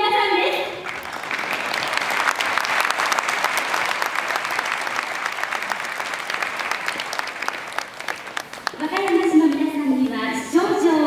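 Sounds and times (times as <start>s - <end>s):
audience clapping: 0.8s - 10.2s.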